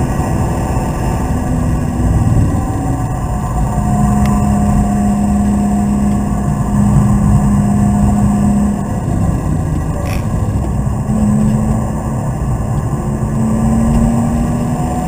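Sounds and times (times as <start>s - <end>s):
car engine pulling hard: 0.0s - 15.0s
road and tyre noise: 0.0s - 15.0s.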